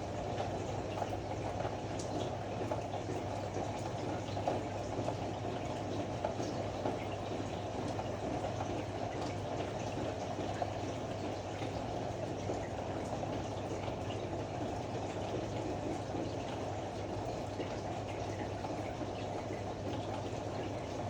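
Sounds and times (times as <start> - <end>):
washing machine churning water: 0.0 - 21.0.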